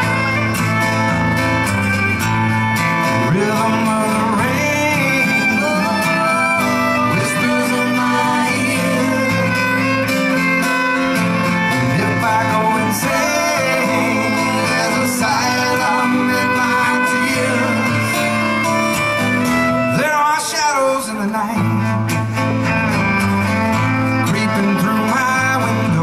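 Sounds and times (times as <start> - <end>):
bowed fiddle: 0.0 - 20.8, 21.5 - 26.0
strummed acoustic guitar: 0.0 - 26.0.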